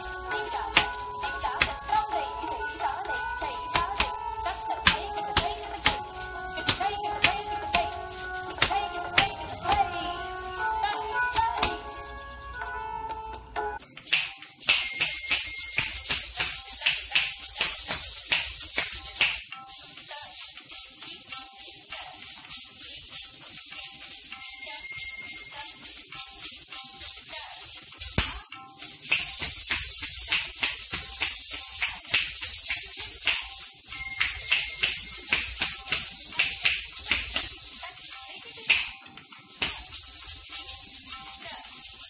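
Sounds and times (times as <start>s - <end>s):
ankle bells jingling: 0.0s - 12.6s, 13.2s - 42.0s.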